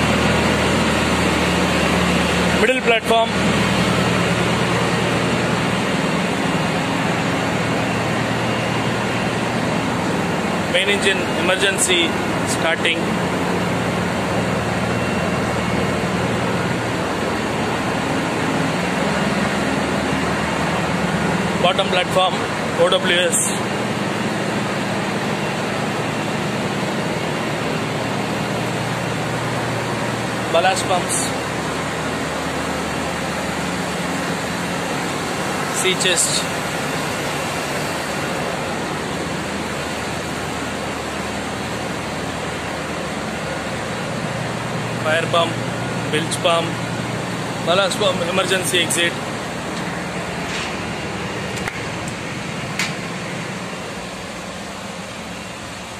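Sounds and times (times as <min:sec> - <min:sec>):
broad rushing noise: 0:00.0 - 0:55.9
engine room machinery hum: 0:00.0 - 0:55.9
ventilation: 0:00.0 - 0:55.9.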